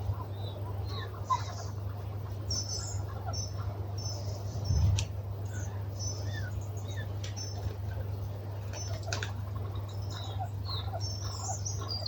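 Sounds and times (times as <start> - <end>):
small birds high calls: 0.0 - 12.0
steady low hum: 0.0 - 12.0.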